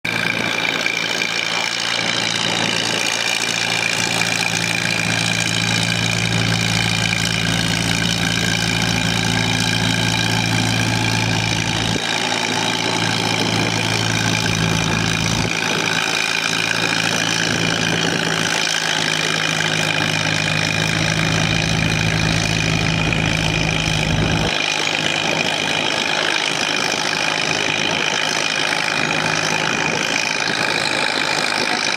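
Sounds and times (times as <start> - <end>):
tractor engine running under load: 0.0 - 31.9.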